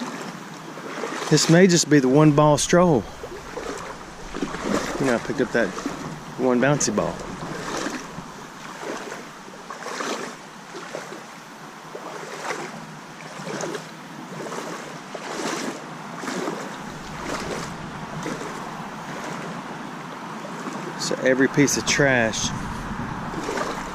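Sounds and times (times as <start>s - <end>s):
boots wading through water: 0.0s - 23.9s.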